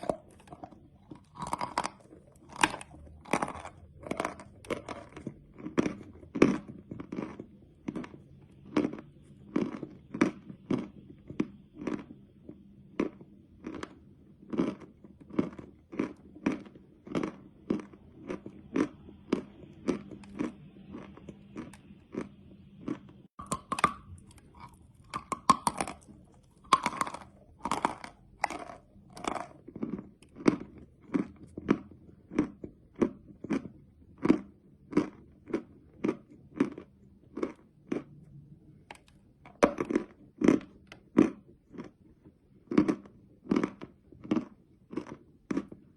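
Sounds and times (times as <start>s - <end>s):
crisp crunching bites: 0.0s - 12.2s, 13.0s - 38.1s, 38.9s - 42.0s
chewing crunchy chalk: 0.0s - 45.9s.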